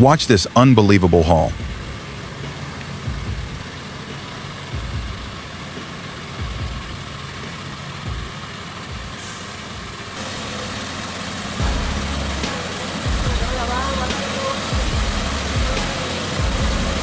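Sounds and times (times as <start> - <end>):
truck diesel engines rumbling: 0.0 - 17.0.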